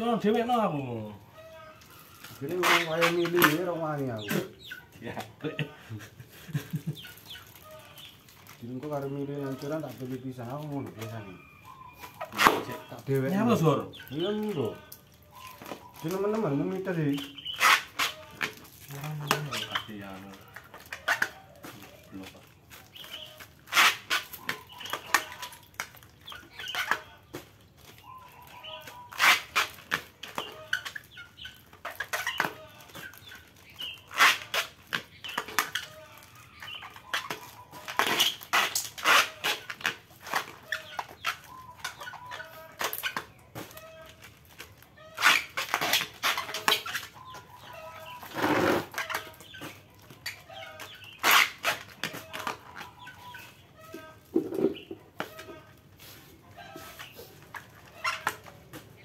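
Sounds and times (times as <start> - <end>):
plastic bags crinkling: 0.0 - 5.5, 6.4 - 59.0
chickens clucking: 0.0 - 59.0.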